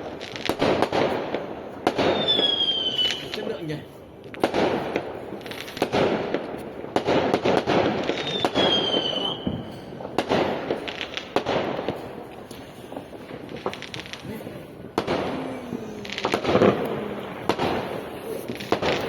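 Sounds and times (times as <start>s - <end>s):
fireworks exploding and crackling: 0.0s - 19.0s.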